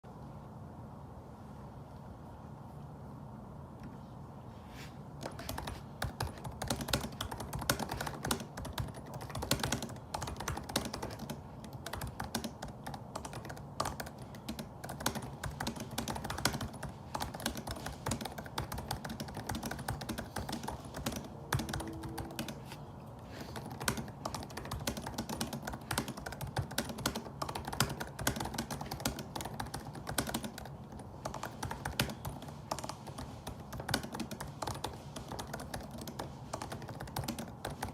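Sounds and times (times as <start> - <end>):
laptop keyboard typing: 5.2 - 37.9.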